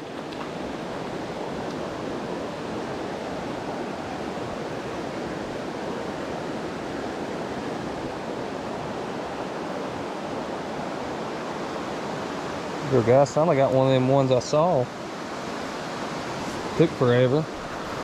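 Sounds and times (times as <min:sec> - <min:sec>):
stream flowing over rocks: 0:00.0 - 0:18.0.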